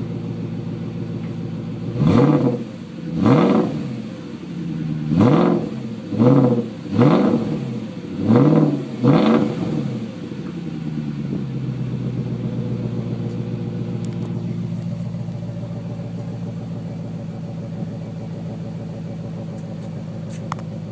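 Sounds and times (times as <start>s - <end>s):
car engine revving: 0.0s - 20.9s.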